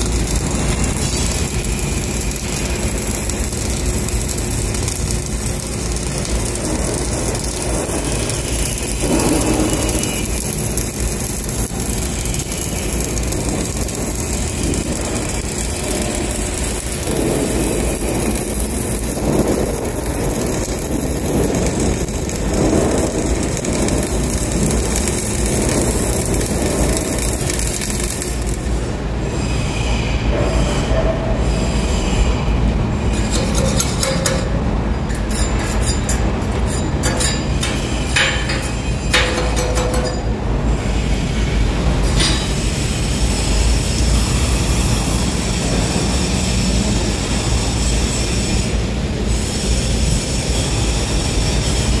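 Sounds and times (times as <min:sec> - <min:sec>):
arc welding noise: 0:00.0 - 0:52.0.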